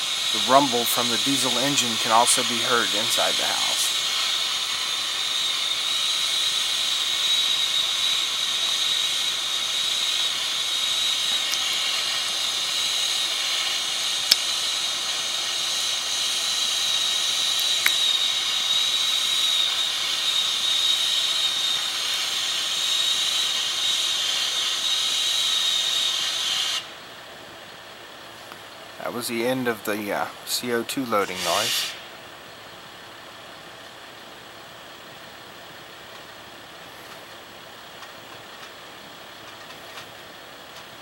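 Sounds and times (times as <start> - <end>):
high-pitched whistling hiss: 0.0 - 41.0.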